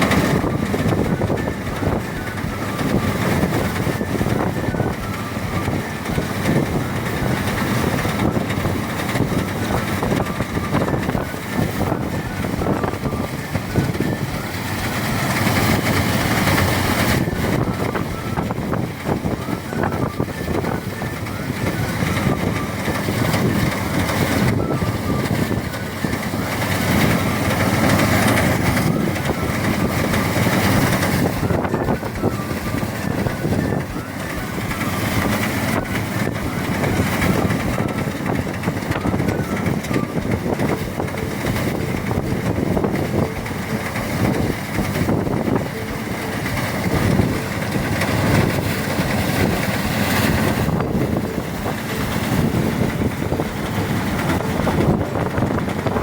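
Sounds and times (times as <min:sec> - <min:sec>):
rice thresher running: 0:00.0 - 0:56.0.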